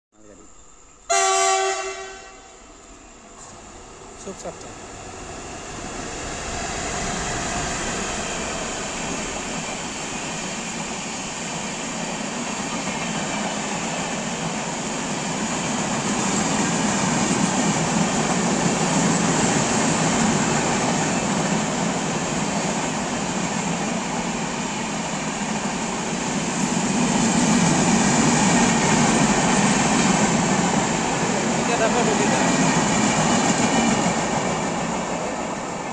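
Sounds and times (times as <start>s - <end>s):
train wheels rumbling on rail: 2.8s - 35.9s.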